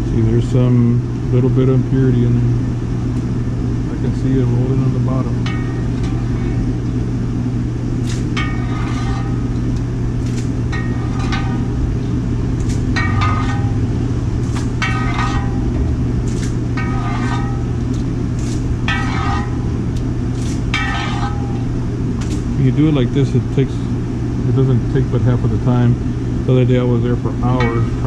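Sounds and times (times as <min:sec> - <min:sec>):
gas burner rumbling: 0:00.0 - 0:28.0.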